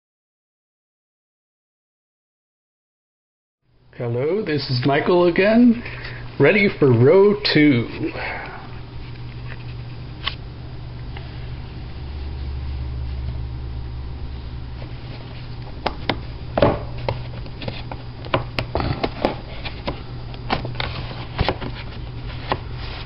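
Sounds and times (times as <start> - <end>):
steady low hum: 3.6 - 23.0.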